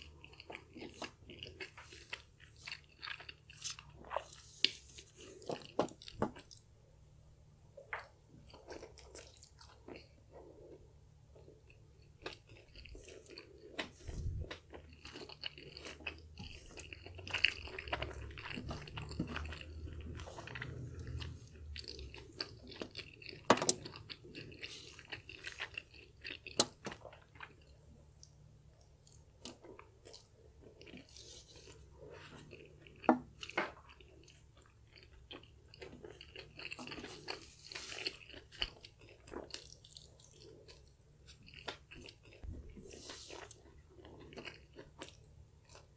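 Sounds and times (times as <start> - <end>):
chewing noodles: 0.0 - 6.7, 7.9 - 45.9.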